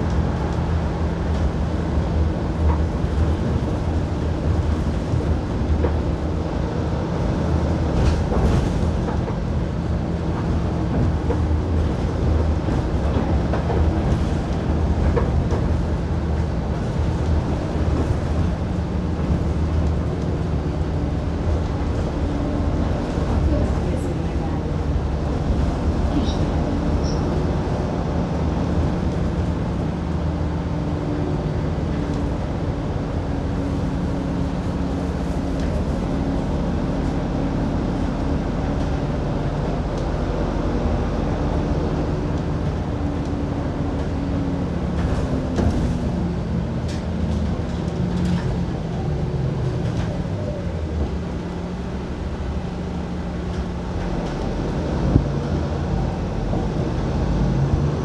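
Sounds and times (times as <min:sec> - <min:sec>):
bus engine drone: 0:00.0 - 0:58.0
road noise: 0:00.0 - 0:58.0.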